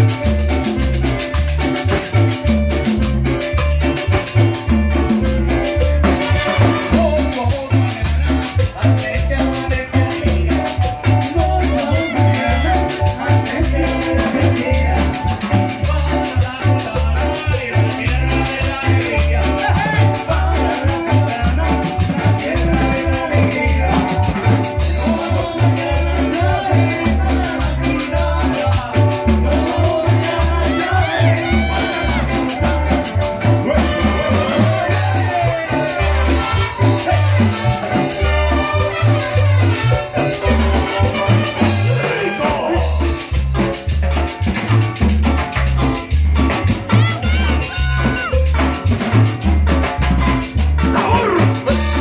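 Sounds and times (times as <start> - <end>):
latin dance band playing: 0.0 - 52.0.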